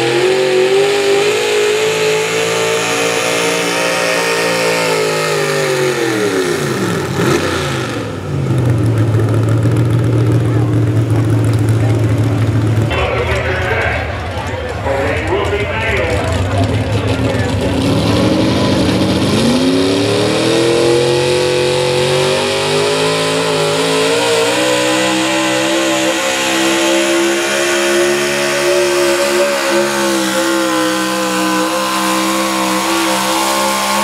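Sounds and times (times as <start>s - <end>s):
truck engine at full throttle: 0.0s - 34.0s.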